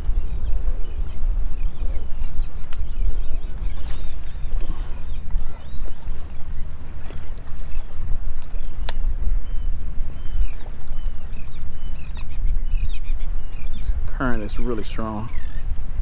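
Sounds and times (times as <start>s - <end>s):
wind buffeting microphone: 0.0s - 16.0s
faint bird calls: 0.1s - 14.1s, 14.7s - 15.8s.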